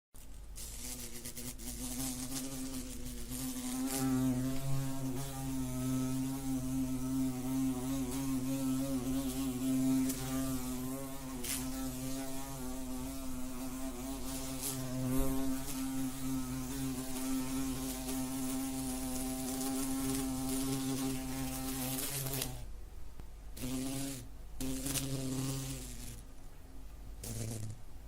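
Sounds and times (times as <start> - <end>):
wasp buzzing in flight: 0.6 - 22.6, 23.6 - 26.2, 27.2 - 27.8.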